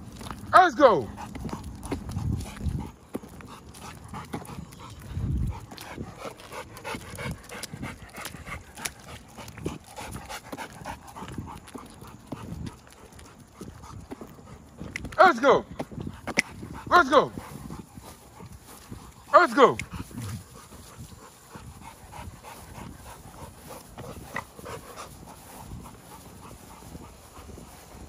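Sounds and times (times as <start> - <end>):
dogs panting: 0.0 - 28.0
steps clicking on wet pavement: 0.0 - 28.0.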